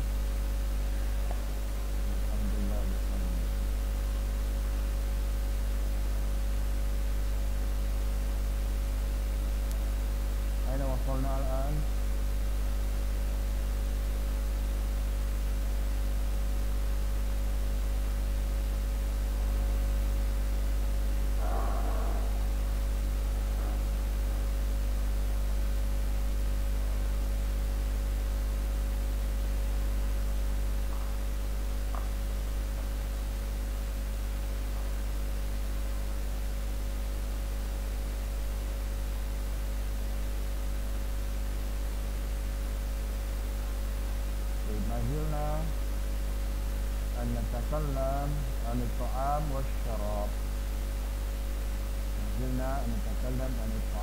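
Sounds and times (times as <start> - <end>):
background hiss: 0.0 - 40.6, 42.0 - 54.0
electrical mains hum: 0.0 - 54.0.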